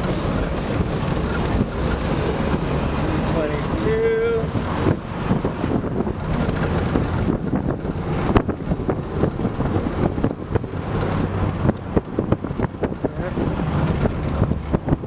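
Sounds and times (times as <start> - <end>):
car knocks and rattles: 0.0 - 2.8, 4.2 - 15.0
car road and wind noise: 0.0 - 15.0.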